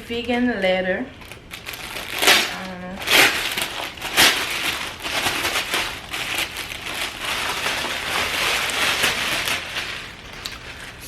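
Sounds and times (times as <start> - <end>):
packaging crinkling and rustling: 1.1 - 11.0.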